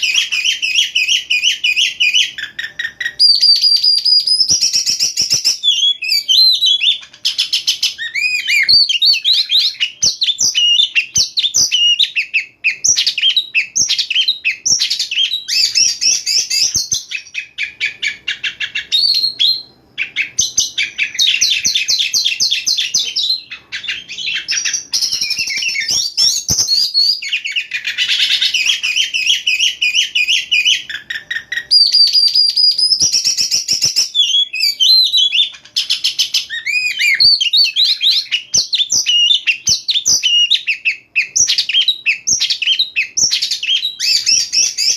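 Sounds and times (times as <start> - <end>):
bird singing whistles and trills: 0.0 - 44.9.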